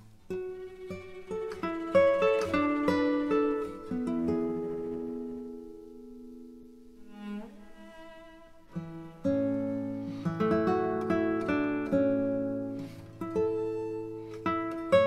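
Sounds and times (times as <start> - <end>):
plucked string instrument notes: 0.0 - 15.0.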